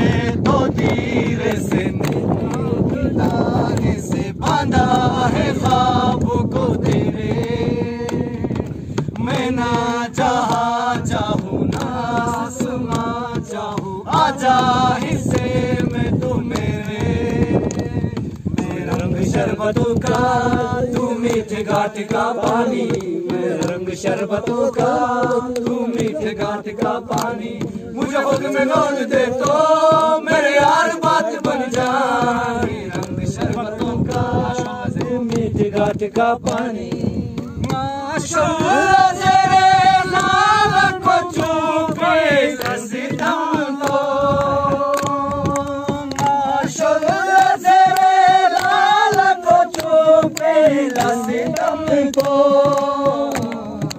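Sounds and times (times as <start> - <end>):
chant-like folk singing: 0.0 - 53.9.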